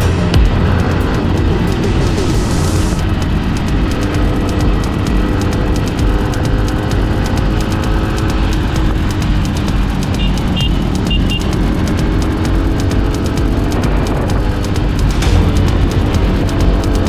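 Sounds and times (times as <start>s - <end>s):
motorcycle engine: 0.0s - 17.0s
wind and road rumble: 0.0s - 17.0s.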